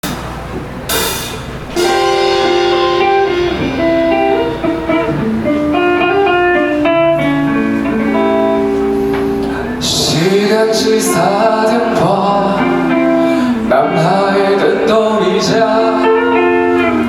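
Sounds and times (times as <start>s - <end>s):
strummed guitar chords: 0.0s - 17.0s
guitar melody: 0.9s - 17.0s.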